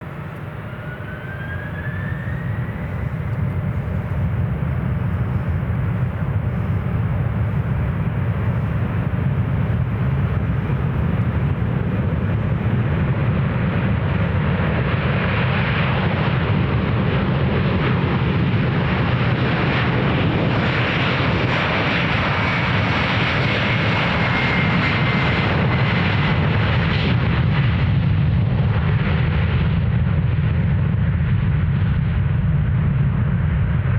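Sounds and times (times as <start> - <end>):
jet engines roaring on takeoff: 0.0 - 33.9.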